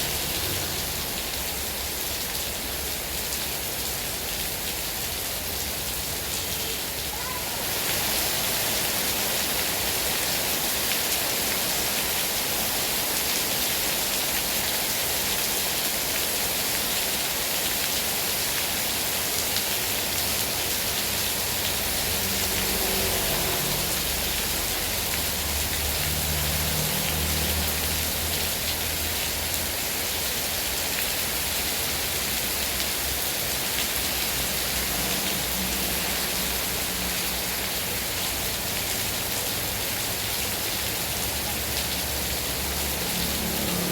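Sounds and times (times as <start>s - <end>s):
heavy rain: 0.0s - 43.9s.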